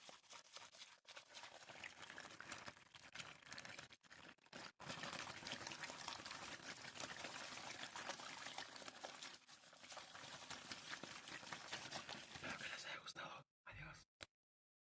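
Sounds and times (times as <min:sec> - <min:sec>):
water pouring and splashing: 0:00.0 - 0:12.7.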